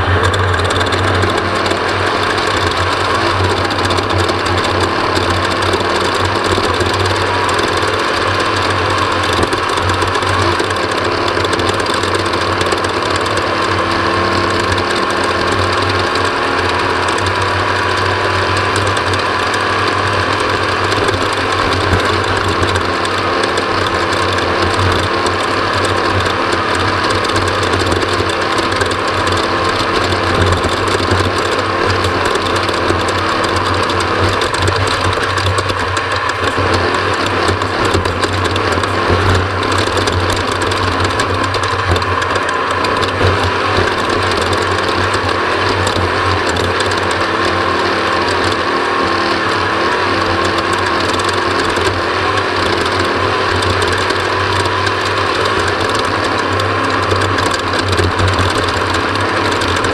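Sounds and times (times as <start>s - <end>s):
race vehicle engine running hard: 0.0s - 59.9s.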